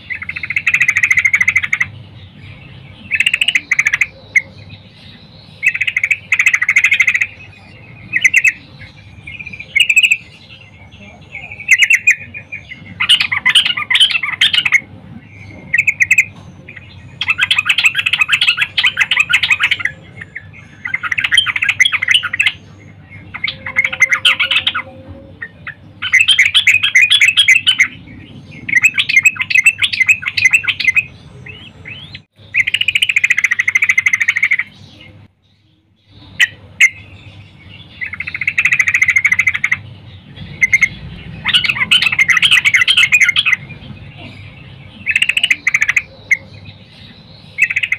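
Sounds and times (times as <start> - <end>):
bird chattering calls: 0.0 - 35.3, 36.0 - 47.9.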